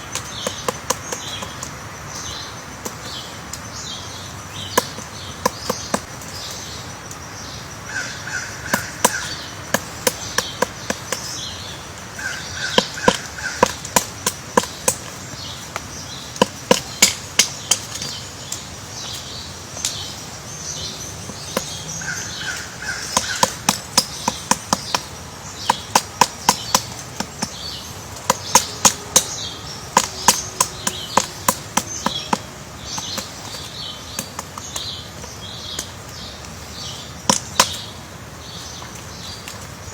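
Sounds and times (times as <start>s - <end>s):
bird chirps and harsh calls: 0.0s - 39.9s.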